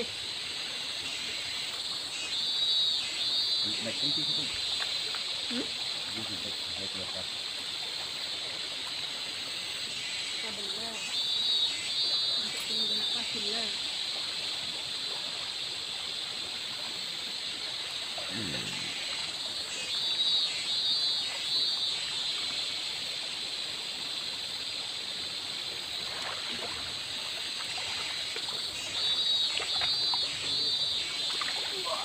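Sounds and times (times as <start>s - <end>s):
river flowing: 0.0s - 32.0s.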